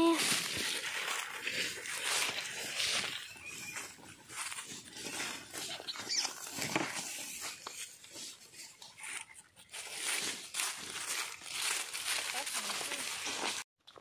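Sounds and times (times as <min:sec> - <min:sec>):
dog paws rustling dry leaves: 0:00.0 - 0:13.6.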